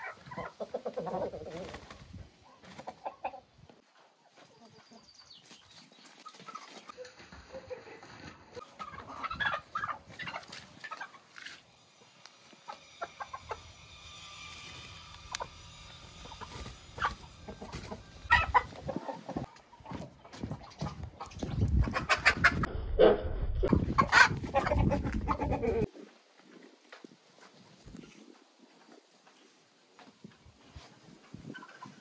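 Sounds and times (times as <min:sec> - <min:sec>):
chickens clucking: 0:00.0 - 0:13.9, 0:14.6 - 0:22.7, 0:23.6 - 0:30.1, 0:30.9 - 0:32.0.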